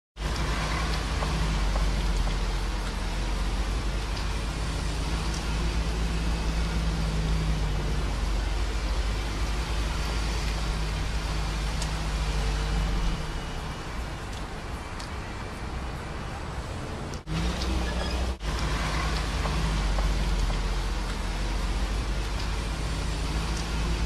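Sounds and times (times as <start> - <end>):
low engine hum: 0.2 - 24.0
vehicle road noise: 0.2 - 24.0.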